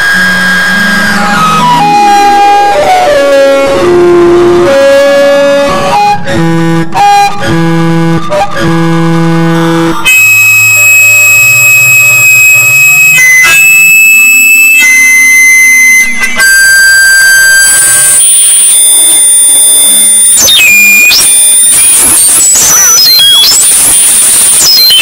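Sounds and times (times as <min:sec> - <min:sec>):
guitar-like tone: 0:00.0 - 0:25.0
loud electronic noise: 0:00.0 - 0:25.0.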